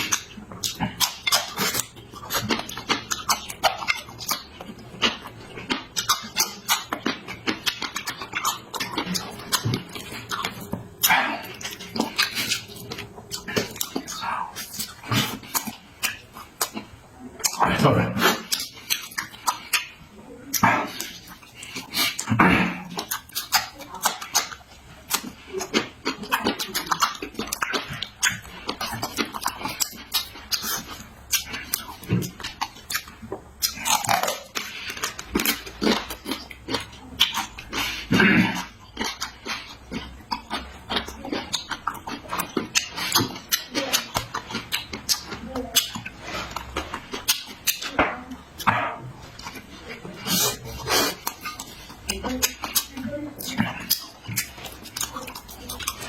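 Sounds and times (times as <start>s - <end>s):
person chewing and lip-smacking: 0.0s - 56.0s.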